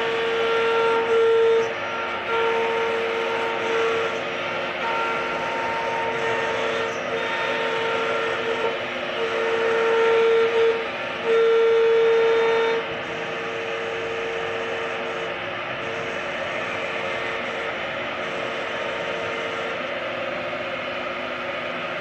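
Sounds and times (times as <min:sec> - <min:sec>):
machining wood: 0:00.0 - 0:20.0
cnc router spindle whine: 0:00.0 - 0:22.0.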